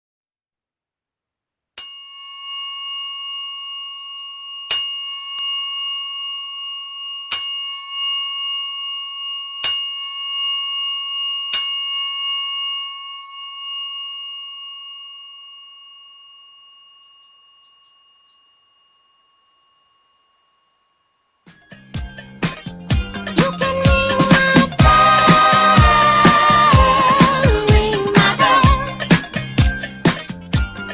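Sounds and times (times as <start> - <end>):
bicycle bell ringing: 1.8 - 24.9, 28.7 - 30.9.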